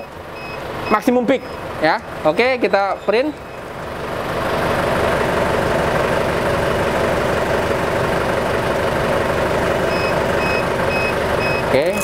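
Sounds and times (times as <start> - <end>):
diesel car engine idling: 0.0 - 12.0.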